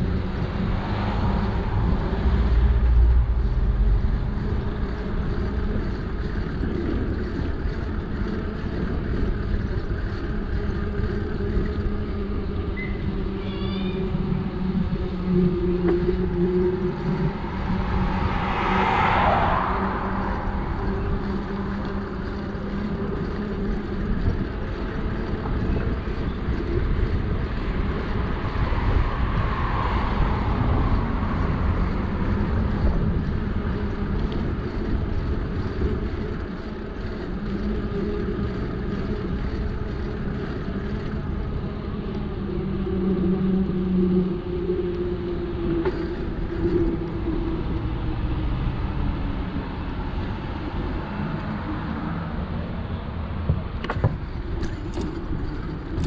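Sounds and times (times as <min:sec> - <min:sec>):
low drone: 0:00.0 - 0:56.0
road and wind noise: 0:00.0 - 0:56.0.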